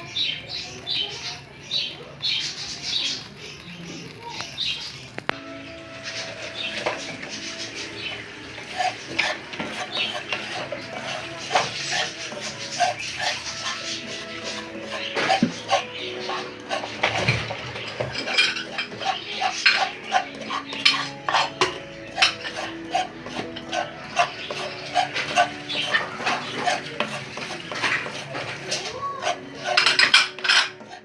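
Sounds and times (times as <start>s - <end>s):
spoon clinking and scraping bowl: 4.7s - 31.0s.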